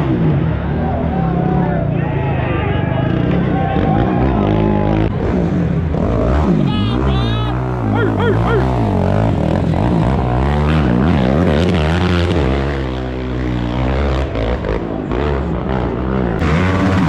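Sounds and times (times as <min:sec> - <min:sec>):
atv engines revving: 0:00.0 - 0:17.0.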